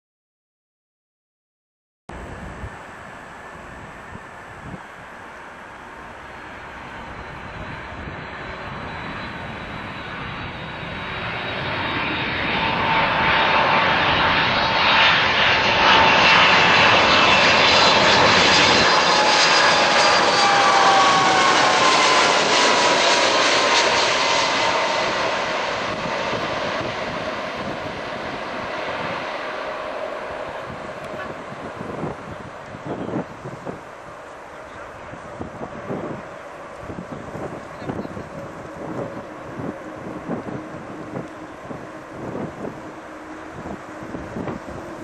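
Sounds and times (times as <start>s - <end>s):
jet airliner passing by: 2.1s - 45.0s
jet engine whine: 2.1s - 45.0s.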